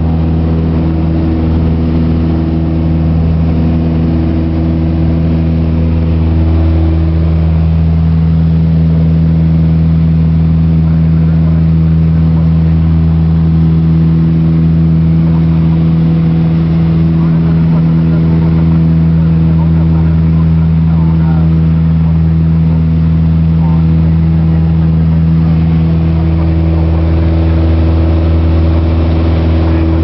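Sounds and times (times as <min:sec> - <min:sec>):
aircraft engine and propeller droning: 0:00.0 - 0:30.0.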